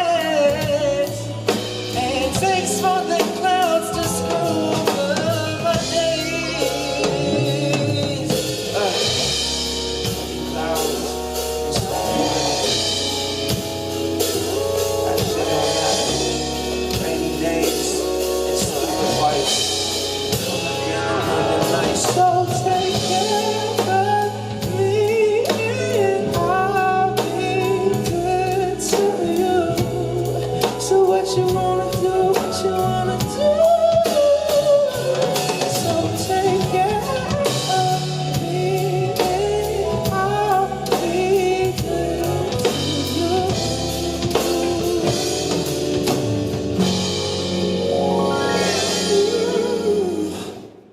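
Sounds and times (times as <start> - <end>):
live band music: 0.0 - 50.9
man singing: 0.0 - 50.9.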